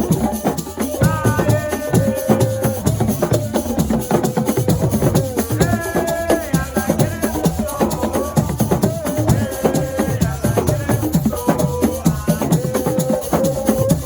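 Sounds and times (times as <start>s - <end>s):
fast rattling percussion: 0.0s - 14.0s.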